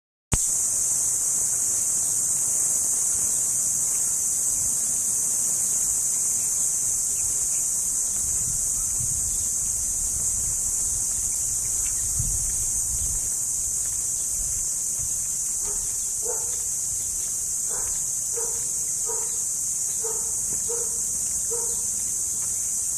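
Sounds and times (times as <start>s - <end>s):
insects shrilling: 0.4s - 22.9s.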